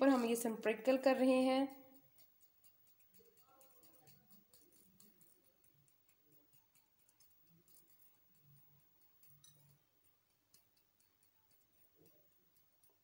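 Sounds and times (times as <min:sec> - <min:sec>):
faint ticks: 0:01.7 - 0:13.0.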